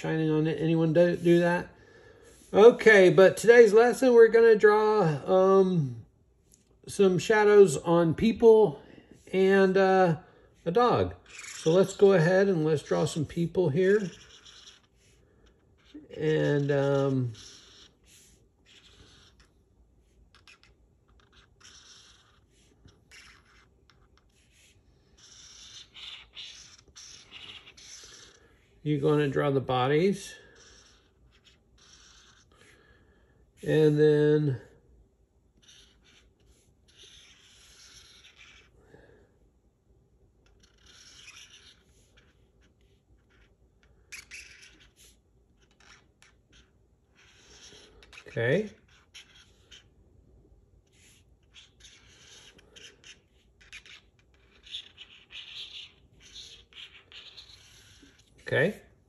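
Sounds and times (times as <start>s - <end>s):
marker scratching on cardboard: 0.0s - 34.7s, 35.4s - 38.8s, 40.4s - 59.0s.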